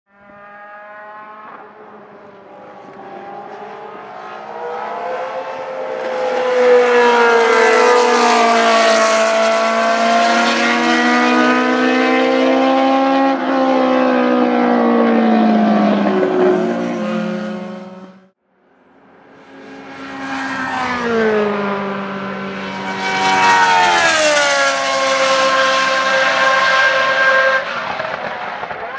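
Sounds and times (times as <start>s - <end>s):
racing car engine: 0.1s - 28.9s.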